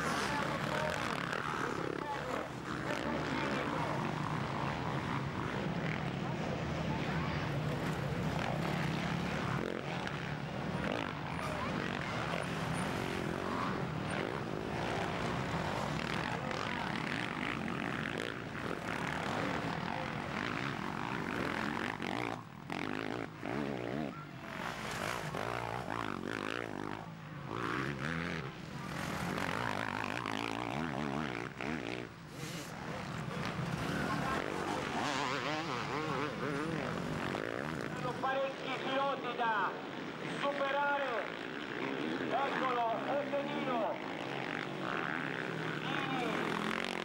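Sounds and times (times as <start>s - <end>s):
motorcycle engines revving: 0.0s - 47.0s.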